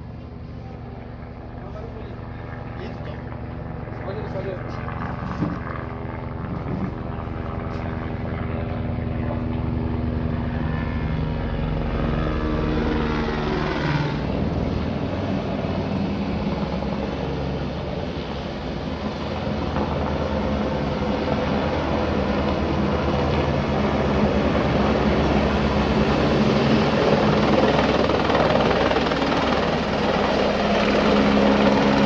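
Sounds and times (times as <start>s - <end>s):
helicopter flying by: 0.0s - 32.0s.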